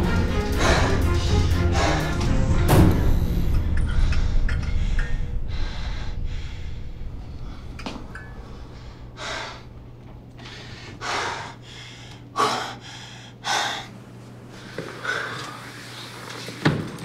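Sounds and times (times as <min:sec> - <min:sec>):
man gasping breaths: 0:00.3 - 0:02.6, 0:03.8 - 0:15.8
faint low hum: 0:01.8 - 0:15.8.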